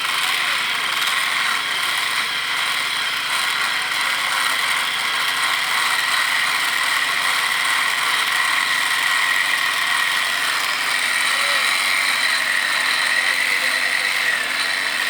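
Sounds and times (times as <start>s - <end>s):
machine running steadily: 0.0s - 15.0s.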